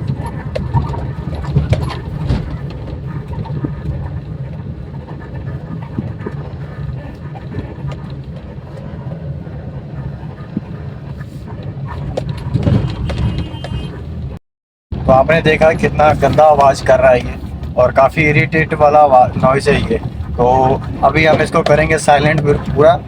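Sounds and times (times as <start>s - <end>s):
suspension squeaks and creaks: 0.0s - 14.4s, 15.0s - 23.0s
car road and engine rumble: 0.0s - 23.0s.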